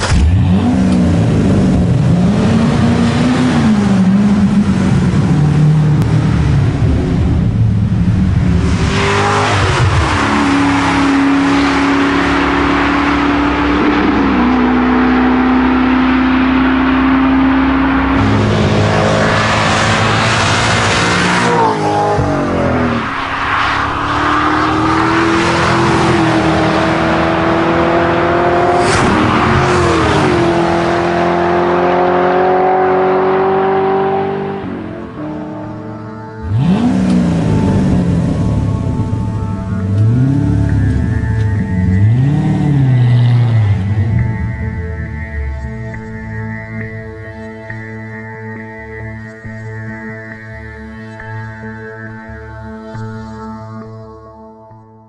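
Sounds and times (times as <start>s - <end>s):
car engine revving and upshifting: 0.0s - 50.4s.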